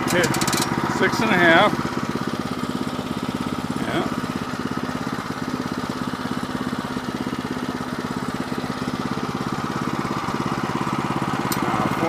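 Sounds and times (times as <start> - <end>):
sawmill gas engine running: 0.0 - 12.0.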